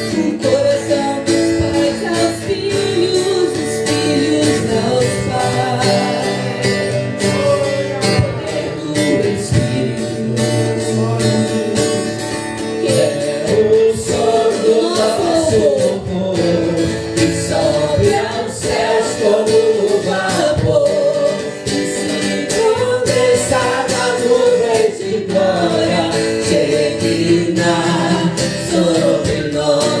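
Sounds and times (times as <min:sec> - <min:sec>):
voices singing gospel song: 0:00.0 - 0:30.0.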